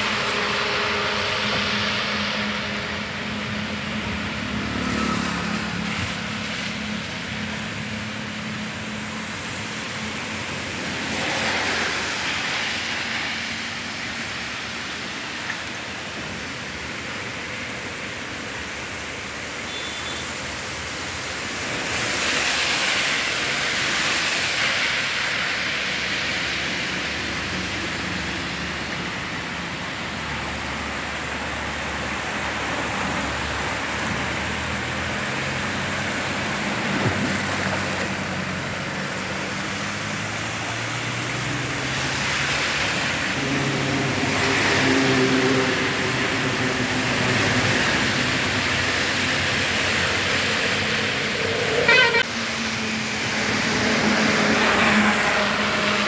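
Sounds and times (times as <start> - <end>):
car engines through water: 0.0 - 56.0
floodwater rushing: 0.0 - 56.0
rain: 0.0 - 56.0.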